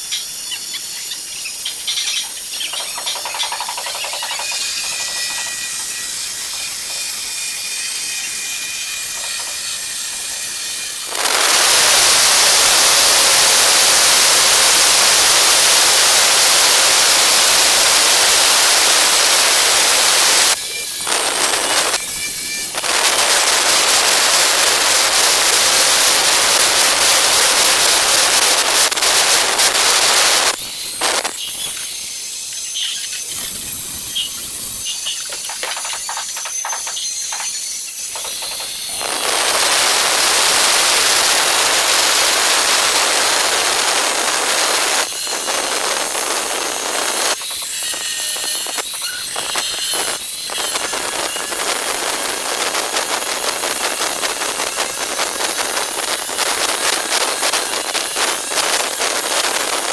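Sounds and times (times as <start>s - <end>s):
angle grinder cutting tile: 0.0s - 59.9s.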